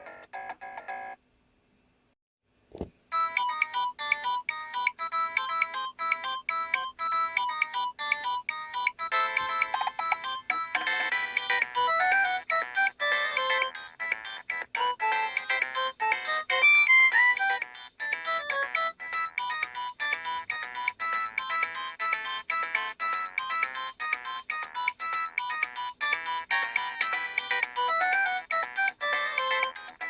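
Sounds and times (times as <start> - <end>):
polyphonic ringtone melody: 3.1 - 30.0.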